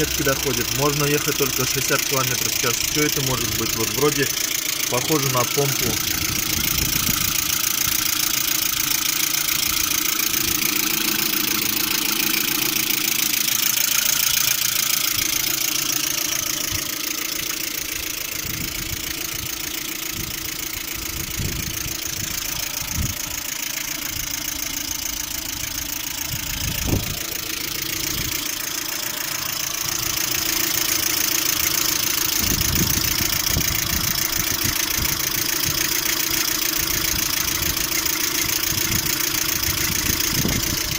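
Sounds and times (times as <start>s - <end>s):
car engine running with knocking: 0.0s - 40.9s.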